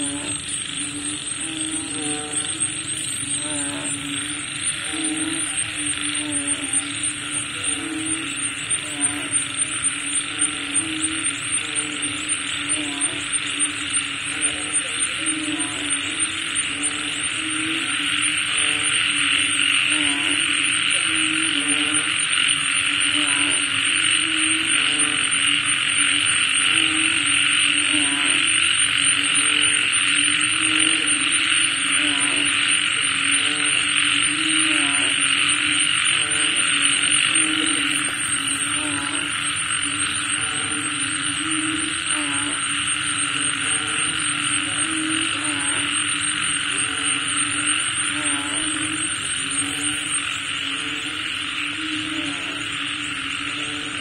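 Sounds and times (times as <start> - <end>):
constant hiss: 0.0 - 54.0
frogs croaking: 0.0 - 54.0
high-pitched drone: 0.0 - 54.0
high-pitched insect trill: 0.0 - 54.0.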